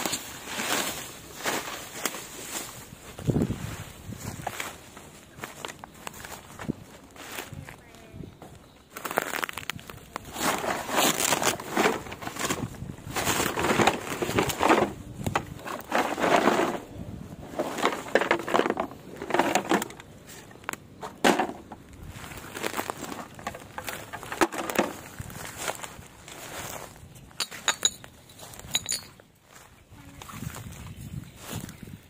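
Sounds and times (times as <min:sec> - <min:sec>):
dry grass and plastic crackling: 0:00.0 - 0:32.0.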